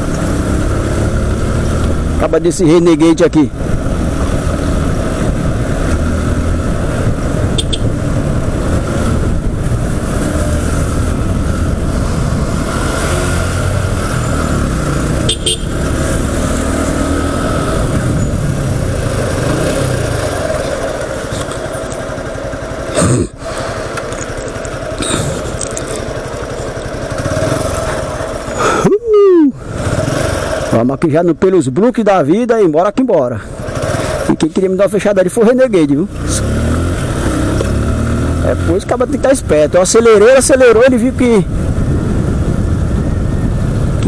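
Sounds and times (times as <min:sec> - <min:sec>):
motorcycle running: 0:00.0 - 0:44.0.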